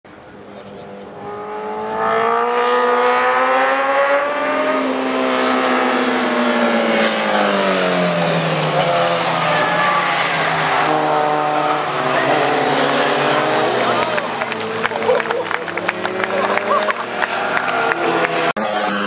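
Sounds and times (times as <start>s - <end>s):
vehicle engine passing by: 0.5s - 19.0s.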